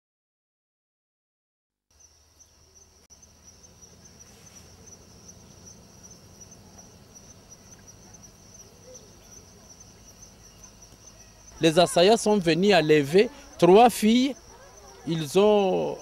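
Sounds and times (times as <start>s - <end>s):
insects trilling: 1.9s - 16.0s.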